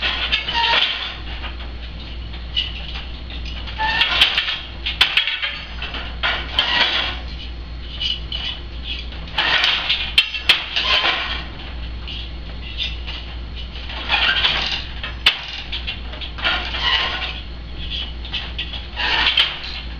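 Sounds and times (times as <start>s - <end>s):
wooden loom clacks: 0.0s - 1.7s, 2.6s - 7.3s, 8.0s - 11.8s, 12.7s - 19.9s.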